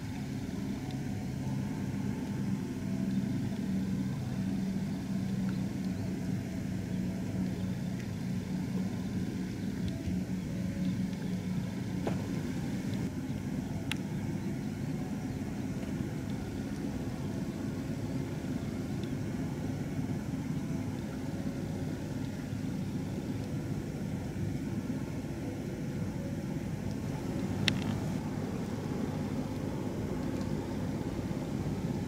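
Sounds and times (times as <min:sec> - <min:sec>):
truck engine drone: 0:00.0 - 0:32.0.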